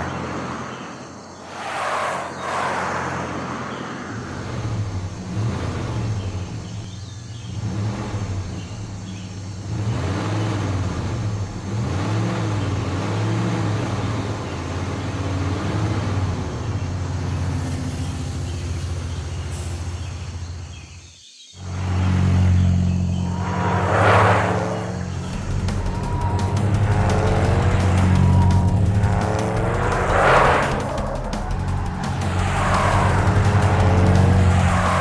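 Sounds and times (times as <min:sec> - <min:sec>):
cartoon vehicle engine drone: 0:04.2 - 0:20.6, 0:21.6 - 0:35.0.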